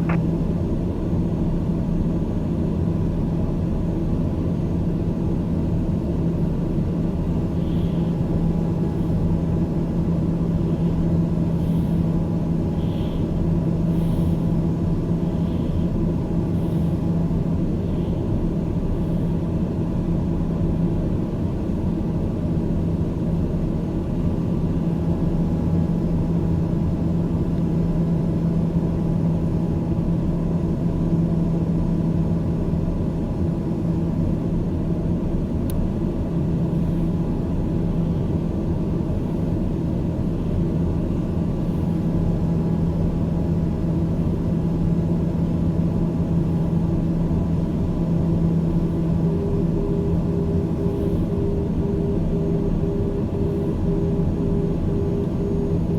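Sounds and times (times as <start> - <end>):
airplane engines droning: 0.0 - 55.9.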